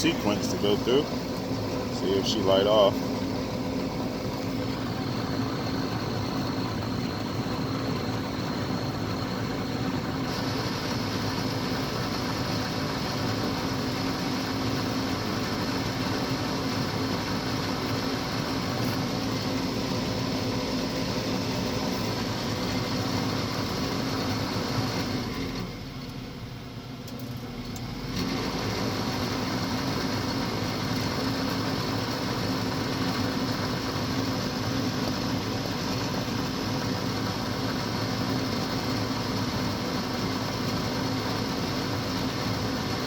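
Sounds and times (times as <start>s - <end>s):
furnace fan motor humming: 0.0s - 43.0s.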